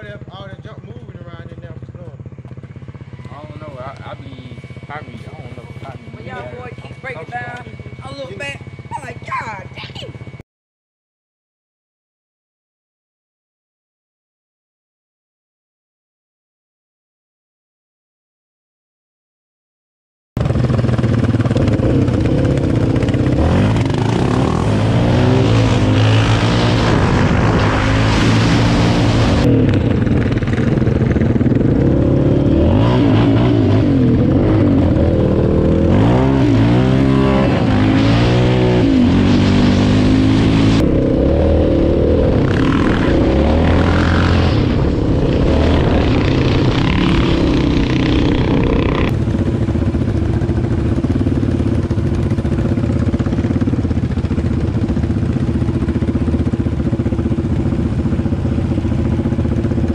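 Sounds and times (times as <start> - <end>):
off-road vehicle engines revving: 0.0 - 9.7, 20.4 - 59.9.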